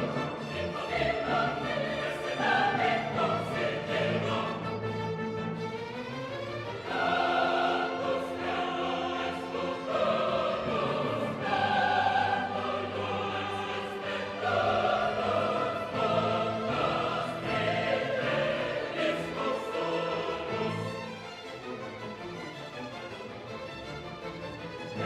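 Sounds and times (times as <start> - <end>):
choral singing with orchestra: 0.0 - 22.7, 23.3 - 25.0.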